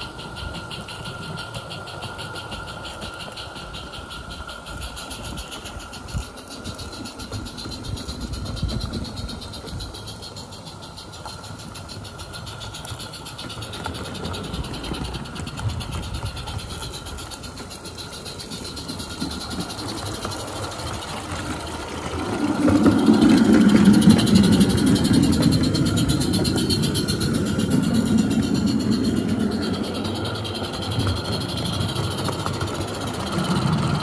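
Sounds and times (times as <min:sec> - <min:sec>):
model steam train rolling on track: 0:00.0 - 0:34.0.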